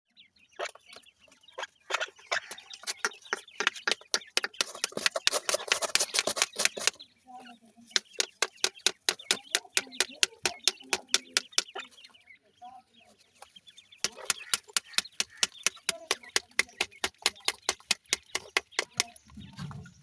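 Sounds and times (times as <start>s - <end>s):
chicks pecking sharp taps: 0.6s - 7.0s, 7.8s - 12.1s, 13.4s - 19.2s.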